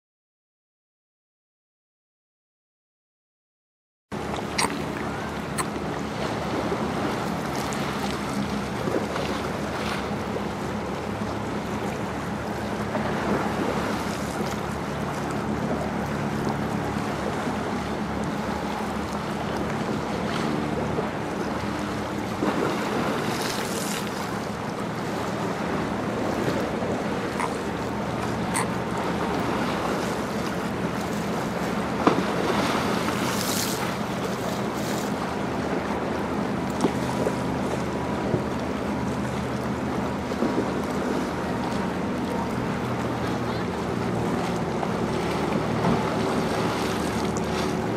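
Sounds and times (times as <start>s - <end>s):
ship engines humming: 4.1s - 47.9s
water lapping against stone wall: 4.2s - 47.9s.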